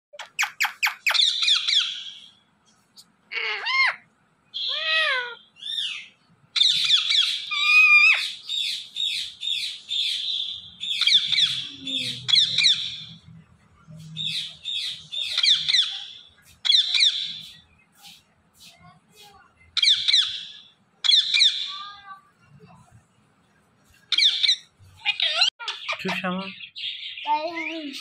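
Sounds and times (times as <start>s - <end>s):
parakeet squawking and chirping: 0.1s - 2.4s, 3.3s - 13.2s, 14.2s - 18.2s, 19.8s - 22.1s, 23.9s - 28.0s.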